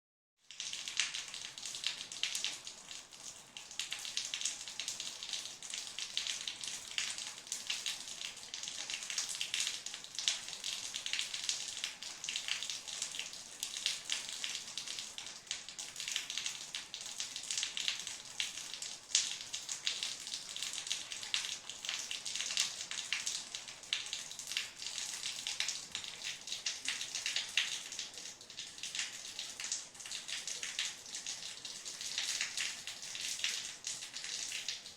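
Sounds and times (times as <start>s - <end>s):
rain on a hard surface: 0.4s - 34.9s.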